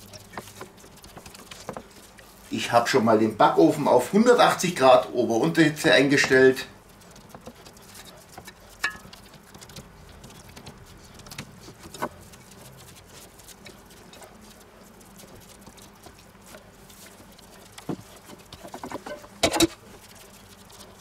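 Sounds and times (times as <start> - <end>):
soft squishing pats of meat: 0.0 - 21.0.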